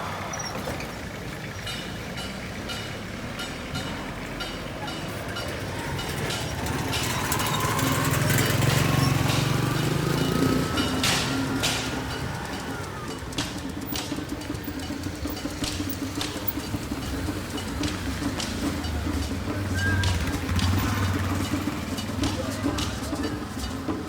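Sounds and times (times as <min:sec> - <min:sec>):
heavy engine running: 0:00.0 - 0:24.0.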